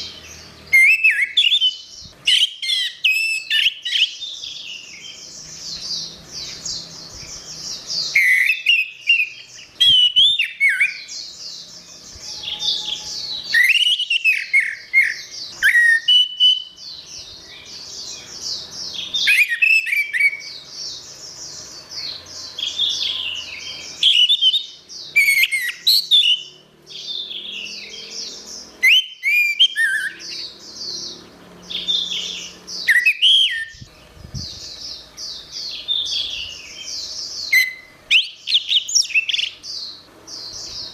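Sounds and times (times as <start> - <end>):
thrush singing: 0.0 - 40.9.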